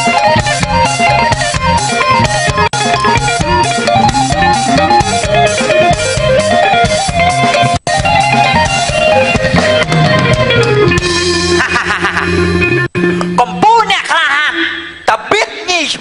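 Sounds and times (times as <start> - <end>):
instrumental music with plucked melody: 0.0 - 13.7.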